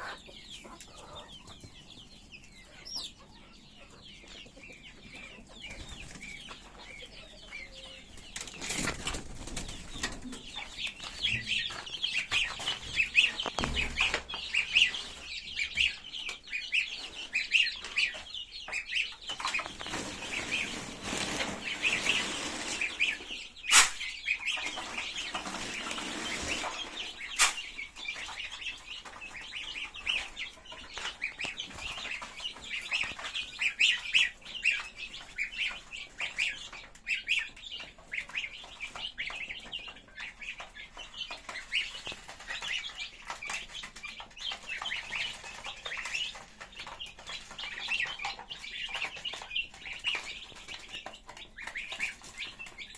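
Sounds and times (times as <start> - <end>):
birds chirping and peeping: 0.0 - 52.9.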